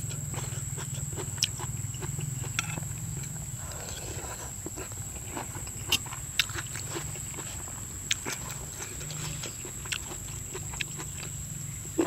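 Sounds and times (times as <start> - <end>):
chewing and mouth sounds: 0.0 - 12.0
steady low hum: 0.0 - 12.0.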